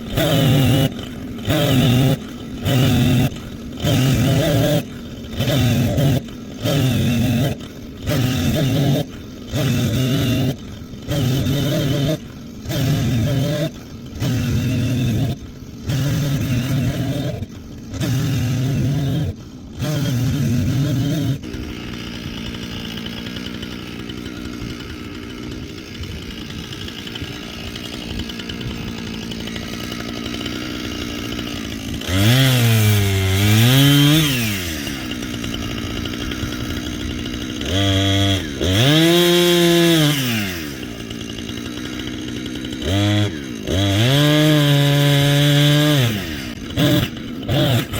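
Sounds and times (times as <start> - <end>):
chainsaw cutting logs: 0.0 - 47.9.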